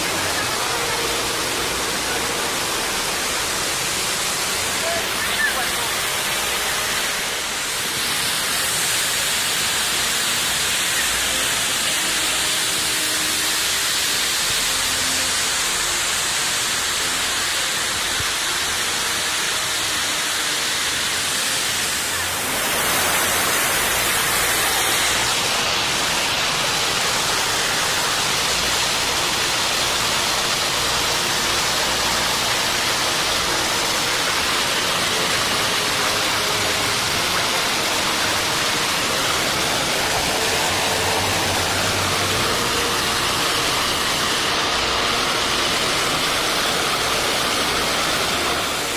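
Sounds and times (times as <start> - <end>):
river rushing over rapids: 0.0 - 48.9.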